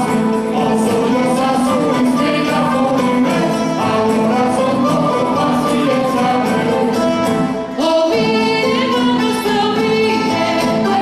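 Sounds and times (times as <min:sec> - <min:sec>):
live folk band playing: 0:00.0 - 0:11.0
people singing: 0:00.0 - 0:11.0.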